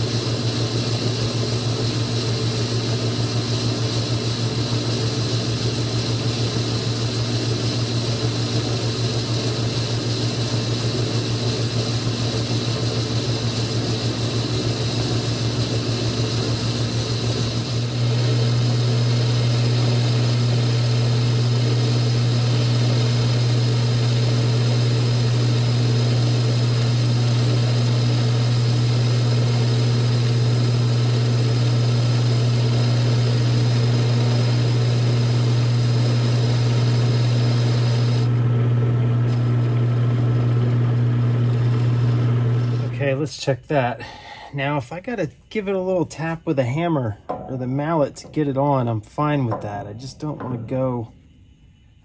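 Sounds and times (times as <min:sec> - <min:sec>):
metal lathe humming: 0:00.0 - 0:42.9.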